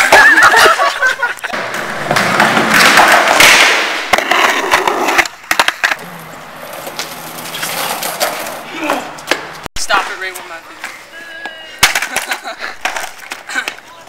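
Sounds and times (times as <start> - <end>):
skateboard wheels rolling on concrete: 0.0 - 14.0
skateboard clacking on pavement: 1.5 - 14.0.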